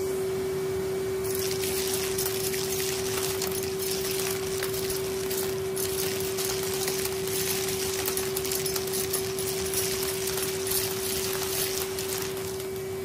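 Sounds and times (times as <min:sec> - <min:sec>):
paper clips clinking in metal wand: 0:01.3 - 0:12.9.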